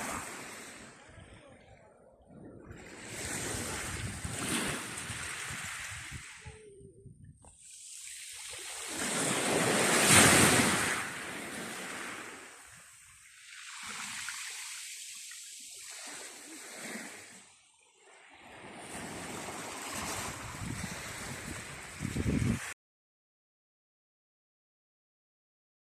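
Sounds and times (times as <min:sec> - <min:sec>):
sea waves breaking on shore: 0:00.0 - 0:01.7, 0:02.7 - 0:22.8.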